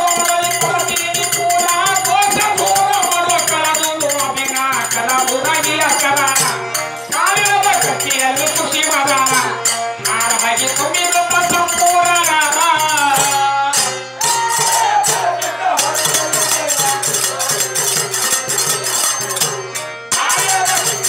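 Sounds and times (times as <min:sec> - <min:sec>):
man singing: 0:00.0 - 0:19.5, 0:20.1 - 0:21.0
harmonium: 0:00.0 - 0:21.0.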